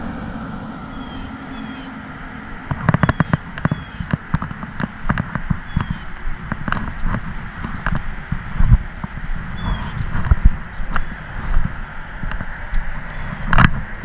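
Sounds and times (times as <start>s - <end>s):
footsteps in dry grass: 0.9s - 14.0s
gear handling clicks and knocks: 2.7s - 13.9s.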